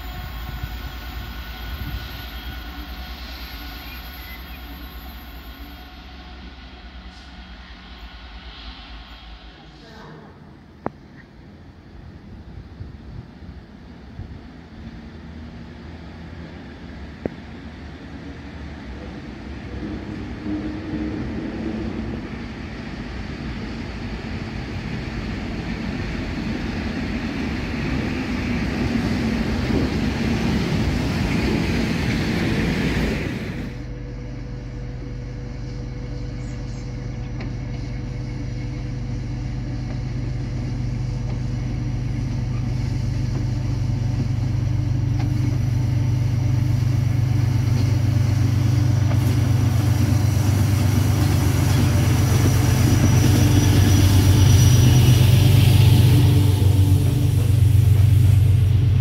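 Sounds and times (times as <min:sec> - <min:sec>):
train wheels on rails: 0:00.0 - 0:34.0, 0:34.9 - 0:59.0
diesel locomotive engine drone: 0:00.0 - 0:59.0.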